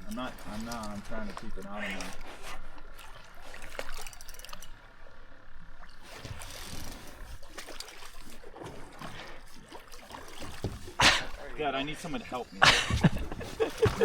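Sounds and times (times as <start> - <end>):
water sloshing: 0.0 - 14.0.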